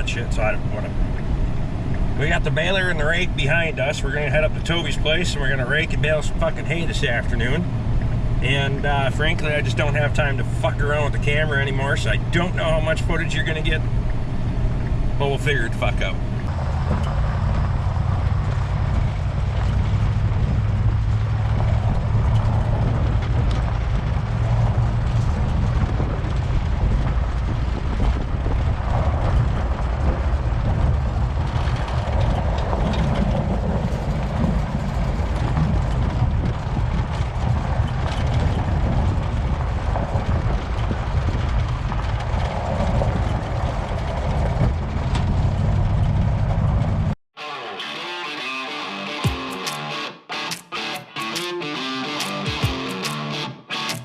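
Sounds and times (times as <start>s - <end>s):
vehicle engine rumbling: 0.0s - 47.2s, 48.8s - 54.0s
road and rattle noise: 0.0s - 54.0s.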